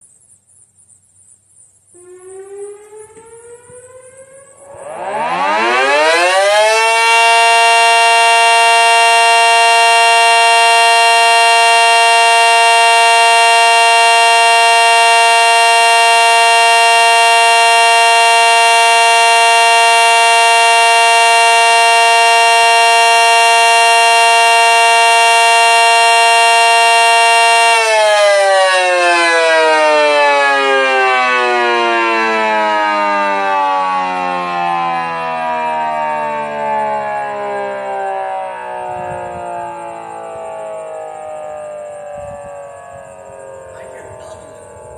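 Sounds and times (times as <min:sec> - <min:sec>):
warning siren winding: 0:01.9 - 0:44.9.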